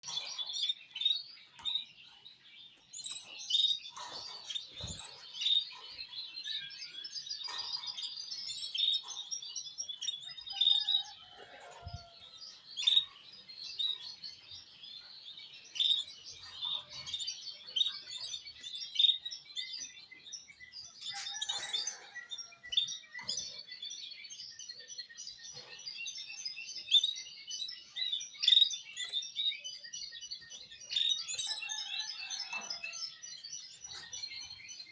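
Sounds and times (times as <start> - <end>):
caged birds chirping: 0.0 - 34.9.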